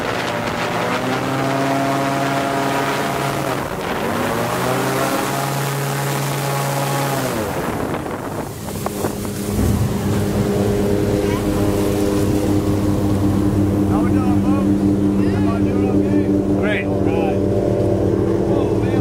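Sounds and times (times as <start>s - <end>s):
airboat engine and propeller: 0.0s - 19.0s.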